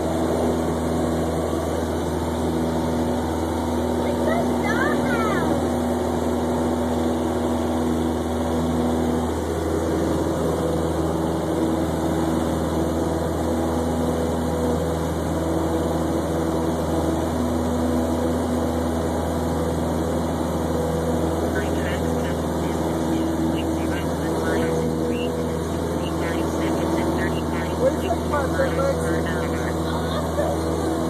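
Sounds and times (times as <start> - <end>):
airplane engine and propeller droning: 0.0 - 31.0.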